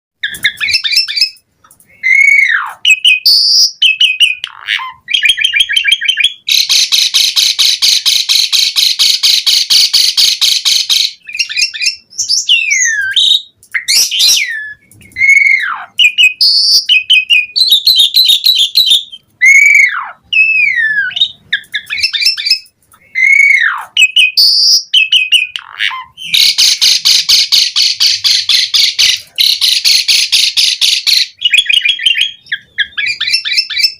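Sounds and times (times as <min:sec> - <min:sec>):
starling singing: 0:00.2 - 0:33.9.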